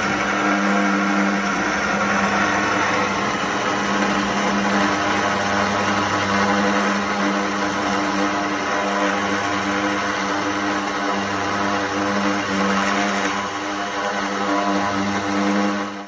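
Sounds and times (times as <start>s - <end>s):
motor-driven machine humming: 0.0s - 16.0s.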